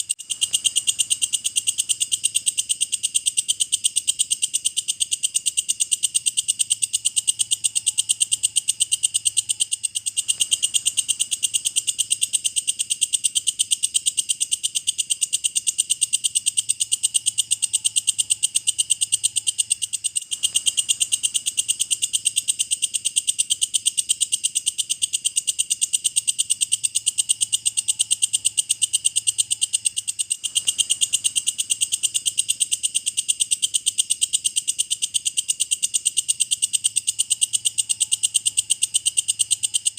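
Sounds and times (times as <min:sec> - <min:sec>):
katydid buzzing trill: 0:05.7 - 0:23.3, 0:24.1 - 0:39.9.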